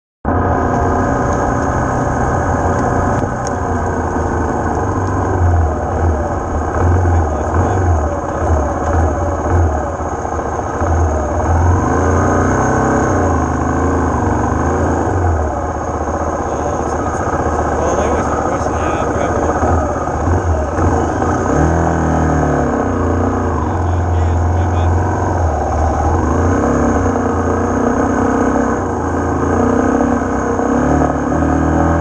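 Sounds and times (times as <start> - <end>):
dirt bike engine revving: 3.9 - 32.0.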